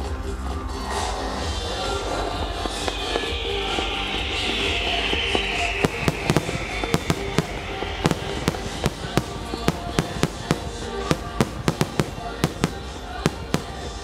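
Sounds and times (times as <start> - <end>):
fireworks bangs: 2.0 - 14.0.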